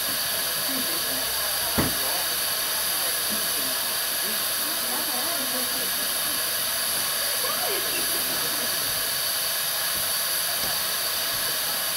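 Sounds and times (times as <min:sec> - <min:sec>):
steam locomotive blowing off steam: 0:00.0 - 0:11.9.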